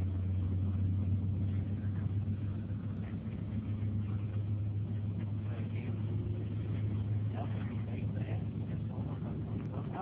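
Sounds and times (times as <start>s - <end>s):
bus engine and tyres droning: 0.0s - 10.0s.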